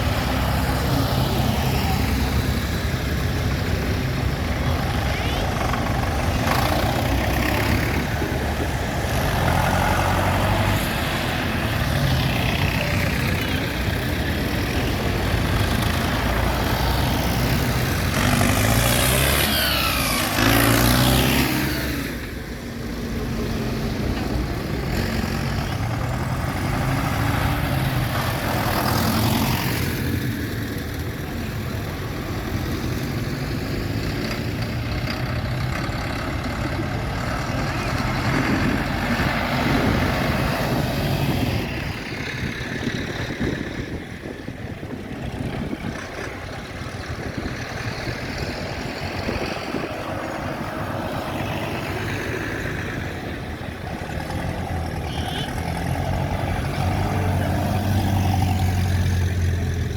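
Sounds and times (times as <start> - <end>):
tractor engines driving past: 0.0 - 59.9.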